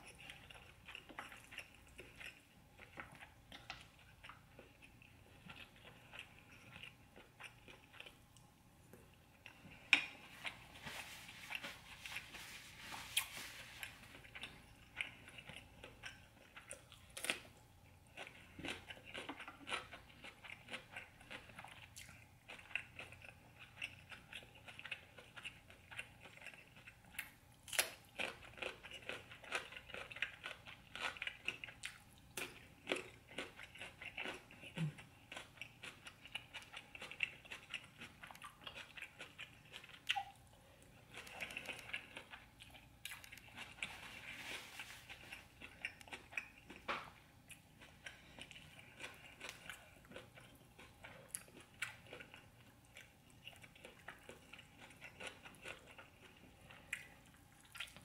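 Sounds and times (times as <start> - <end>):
chewing food: 0.0 - 58.0
crunching on cucumber slices: 0.0 - 58.0.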